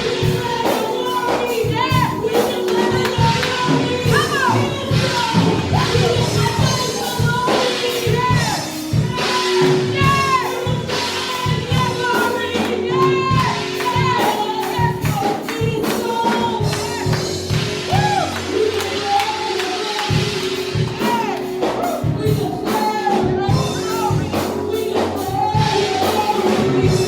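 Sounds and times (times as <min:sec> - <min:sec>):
gospel singing voices: 0:00.0 - 0:27.0
steady beat: 0:00.0 - 0:27.0.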